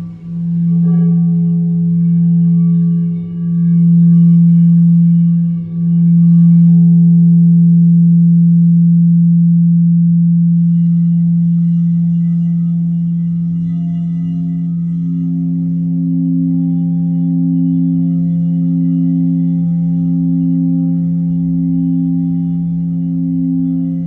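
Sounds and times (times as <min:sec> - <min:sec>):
low ringing tone: 0:00.0 - 0:24.0
wavering higher tone: 0:00.0 - 0:24.0.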